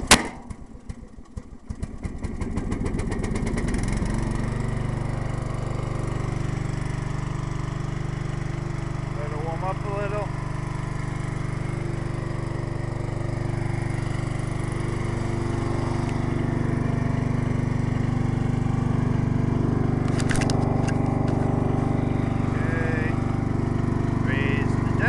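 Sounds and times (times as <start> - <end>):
garden tractor engine running: 0.0 - 25.0.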